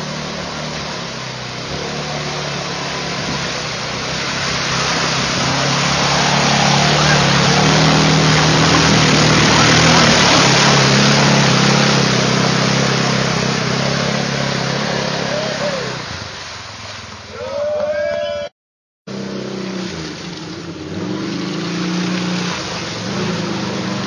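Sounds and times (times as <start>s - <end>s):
churning muddy water: 0.0s - 18.5s, 19.1s - 24.0s.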